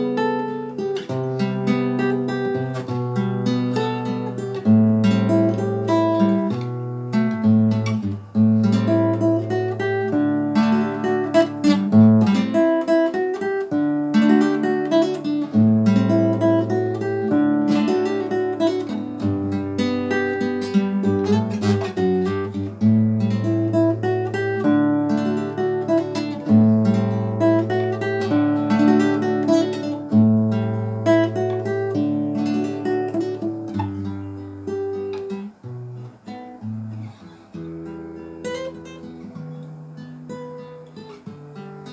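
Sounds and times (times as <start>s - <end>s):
solo acoustic guitar melody: 0.0s - 41.9s.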